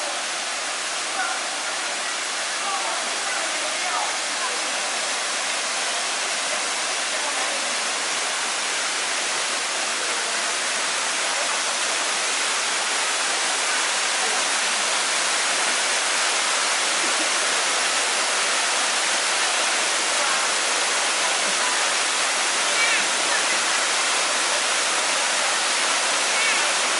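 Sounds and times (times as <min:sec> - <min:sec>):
waterfall rushing into pool: 0:00.0 - 0:26.9.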